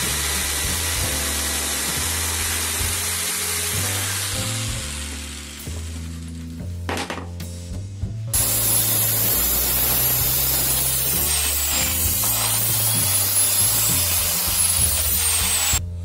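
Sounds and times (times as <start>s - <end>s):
saw motor whine: 0.0s - 6.1s, 8.4s - 15.8s
saw cutting plastic pipe: 0.0s - 6.2s, 8.4s - 15.8s.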